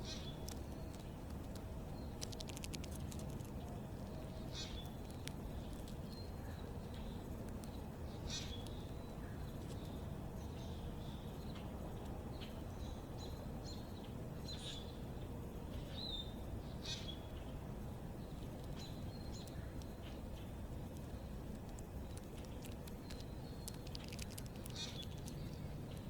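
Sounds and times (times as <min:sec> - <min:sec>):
low background rumble: 0:00.0 - 0:26.0
small birds chirping: 0:00.0 - 0:26.0.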